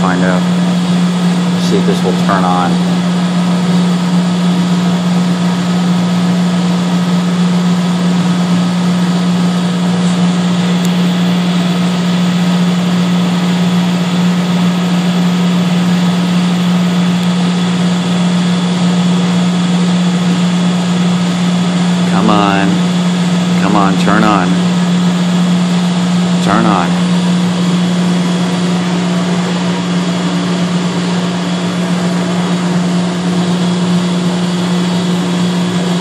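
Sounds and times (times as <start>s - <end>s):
boiler machinery droning: 0.0s - 36.0s.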